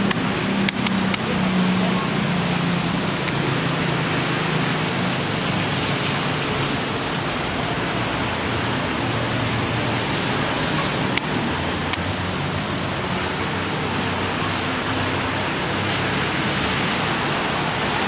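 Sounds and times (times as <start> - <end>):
heavy rain hissing: 0.0 - 18.0
vehicles passing on wet road: 0.0 - 18.0.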